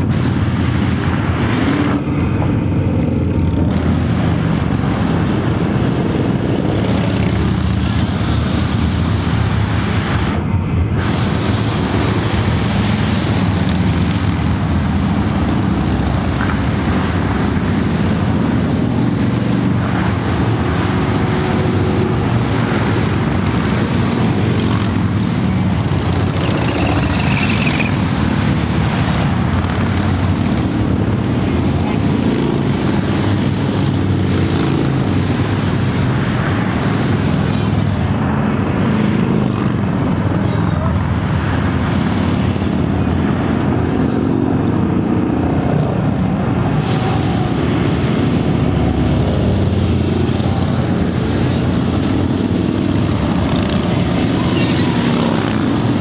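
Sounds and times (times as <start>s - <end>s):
motorcycles riding past: 11.0s - 56.0s.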